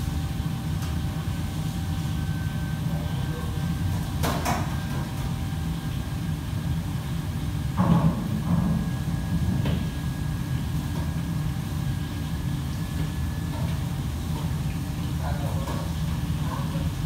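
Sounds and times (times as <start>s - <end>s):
ventilation fans droning: 0.0s - 17.0s.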